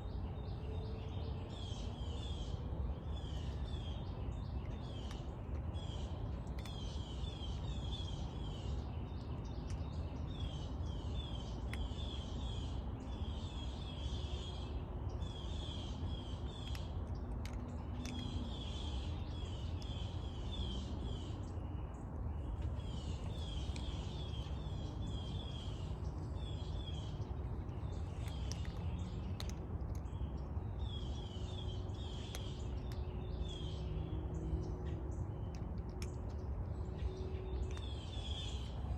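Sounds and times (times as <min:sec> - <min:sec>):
low outdoor rumble: 0:00.0 - 0:38.9
songbird chirping: 0:00.0 - 0:38.9.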